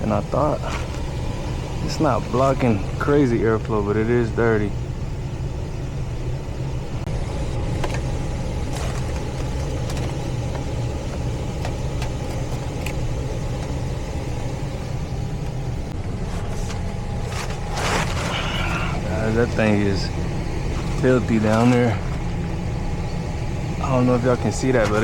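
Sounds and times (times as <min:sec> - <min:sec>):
hvac equipment humming: 0:00.0 - 0:25.0.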